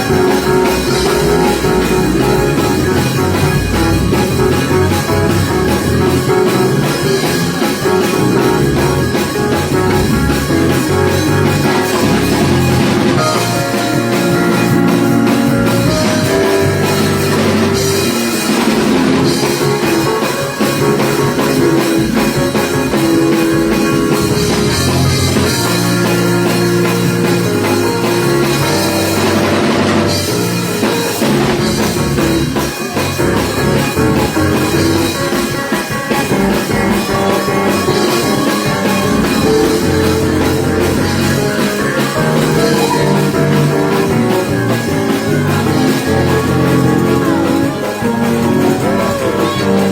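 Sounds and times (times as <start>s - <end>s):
live rock band: 0.0s - 49.9s.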